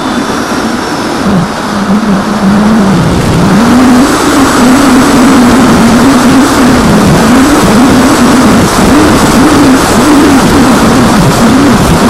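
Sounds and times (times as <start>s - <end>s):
model plane motor buzzing: 0.0s - 12.0s
wind noise on microphone: 0.0s - 12.0s.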